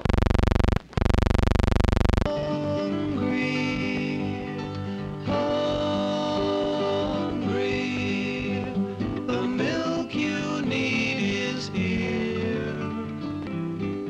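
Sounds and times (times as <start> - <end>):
country guitar tune: 2.2 - 14.0.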